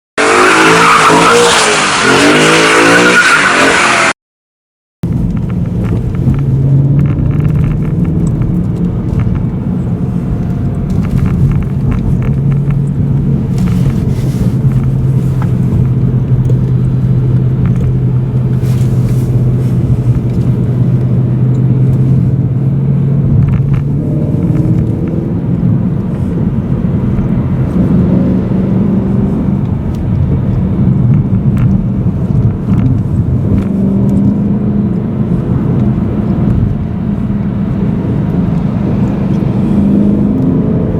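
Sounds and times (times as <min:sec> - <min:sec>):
car engine revving: 0:00.2 - 0:04.2, 0:05.2 - 0:40.9.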